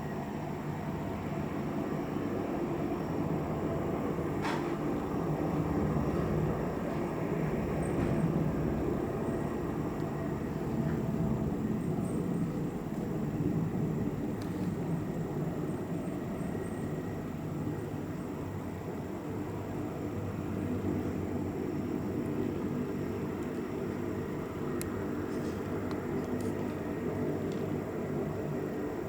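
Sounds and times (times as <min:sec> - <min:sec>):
helicopter engines and rotors rumbling: 0:00.0 - 0:29.0.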